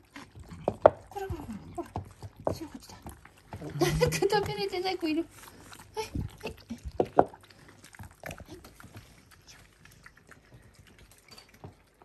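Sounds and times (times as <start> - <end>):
cats chewing and lapping food: 0.0 - 12.0.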